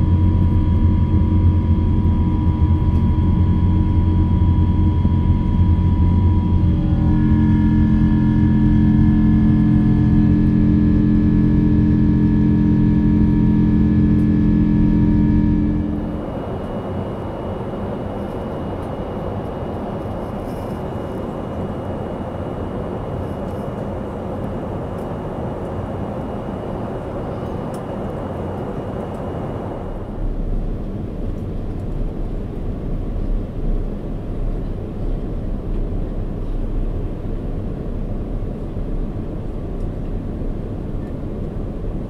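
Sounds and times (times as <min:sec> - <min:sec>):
faint high whine: 0:00.0 - 0:42.0
jet engines droning: 0:00.0 - 0:42.0.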